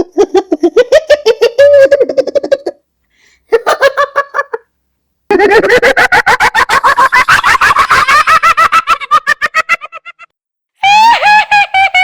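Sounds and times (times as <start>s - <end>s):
witch cackling laugh: 0.0s - 2.8s, 3.5s - 4.7s, 5.3s - 12.0s.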